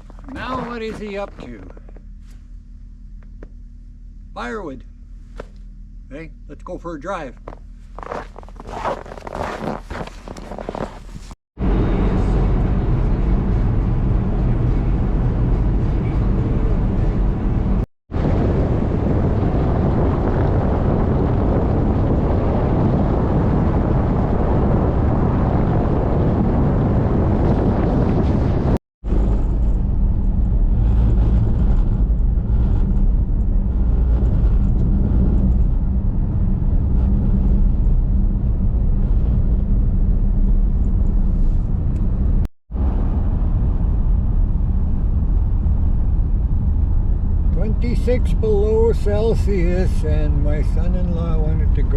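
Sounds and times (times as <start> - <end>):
tyre and road noise: 0.0 - 3.6, 7.3 - 51.9
car engine hum: 0.0 - 6.6, 7.2 - 51.9.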